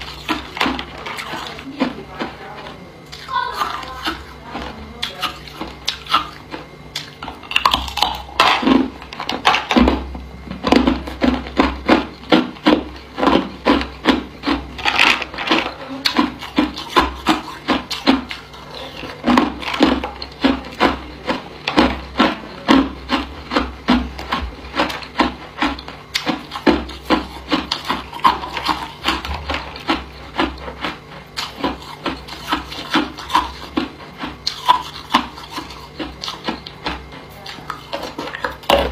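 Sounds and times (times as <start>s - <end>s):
ice cubes crunching when chewed: 0.0s - 38.9s.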